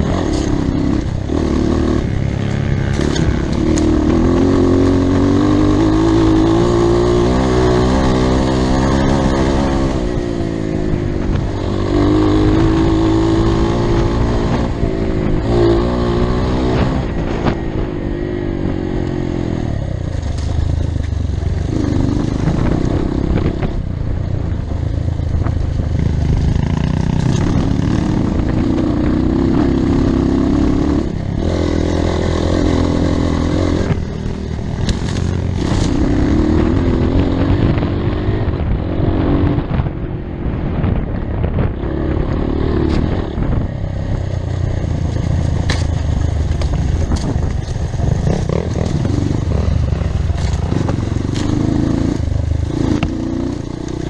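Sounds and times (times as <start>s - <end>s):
dirt bike engine revving: 0.0s - 17.9s, 18.5s - 23.8s, 25.9s - 39.8s, 41.6s - 54.0s.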